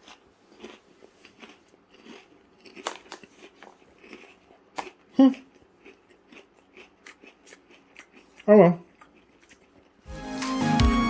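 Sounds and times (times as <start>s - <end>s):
person chewing crisps: 0.0s - 10.1s.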